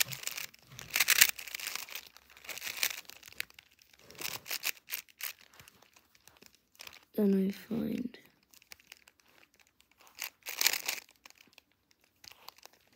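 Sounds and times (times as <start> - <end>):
puzzle cube layers clicking: 0.0 - 7.1, 8.6 - 12.8.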